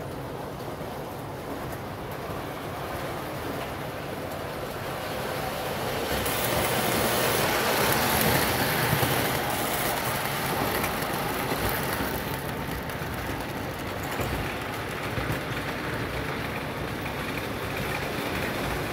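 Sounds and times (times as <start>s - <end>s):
model train rumbling on track: 0.0s - 18.9s.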